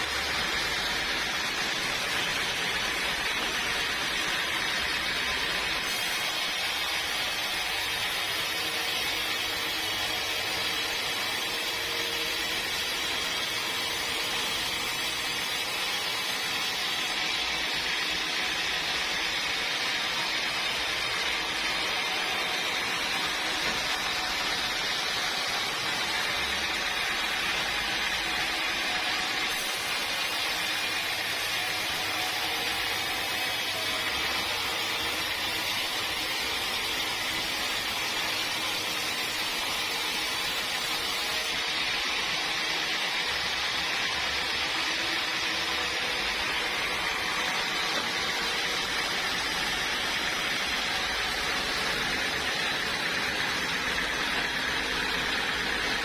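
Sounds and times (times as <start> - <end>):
sawmill machinery hissing: 0.0 - 56.0.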